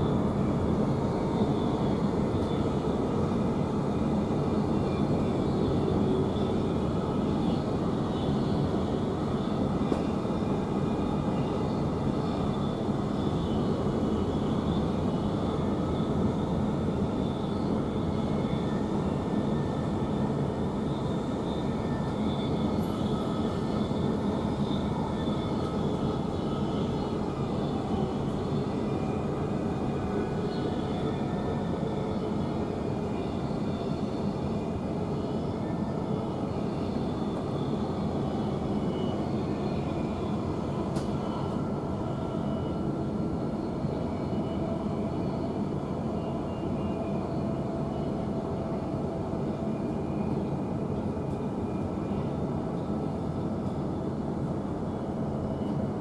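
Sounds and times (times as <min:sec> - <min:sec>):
faint high whining tones: 0:00.0 - 0:56.0.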